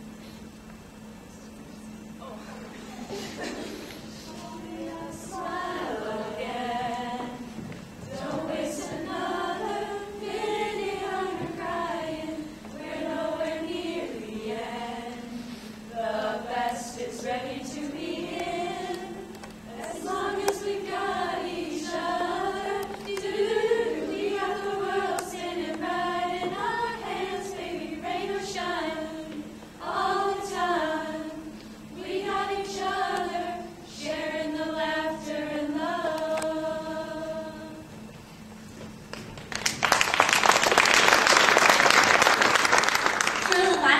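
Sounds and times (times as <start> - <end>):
girls singing a cappella: 2.7 - 38.1.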